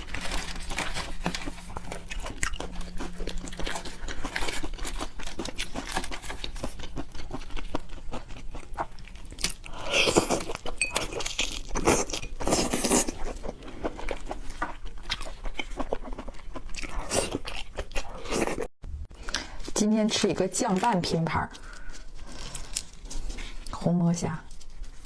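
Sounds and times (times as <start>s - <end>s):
wet chewing and crunchy bites: 0.0s - 23.7s.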